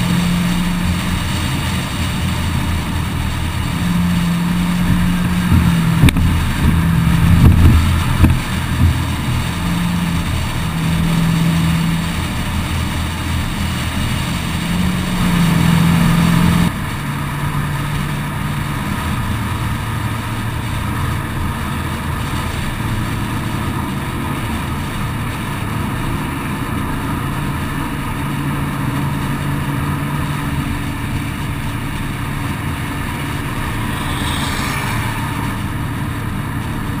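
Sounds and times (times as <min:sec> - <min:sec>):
car engine drone: 0:00.0 - 0:37.0
wind and tyre noise: 0:00.0 - 0:37.0.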